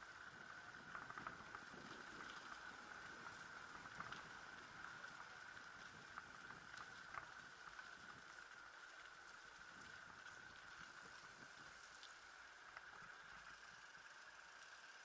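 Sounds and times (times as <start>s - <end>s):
faint high hiss: 0.0s - 15.0s
faint ticks: 0.0s - 15.0s.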